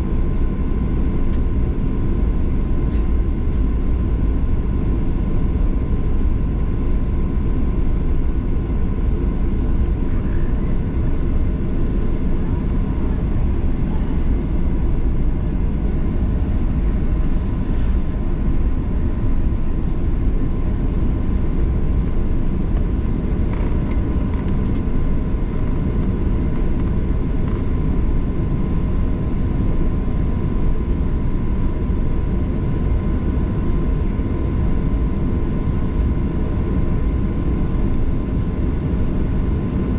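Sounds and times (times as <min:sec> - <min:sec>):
faint constant whine: 0:00.0 - 0:39.9
jet engine and airflow rumble: 0:00.0 - 0:39.9.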